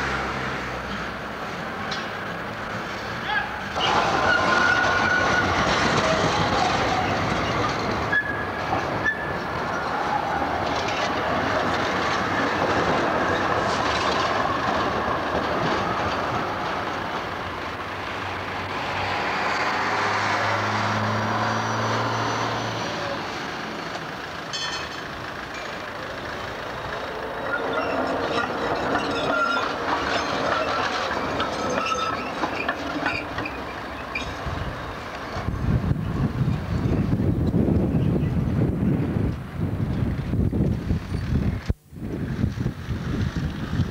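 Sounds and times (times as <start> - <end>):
tram wheels rolling on rails: 0.0 - 43.9
wheels squealing: 2.8 - 43.9.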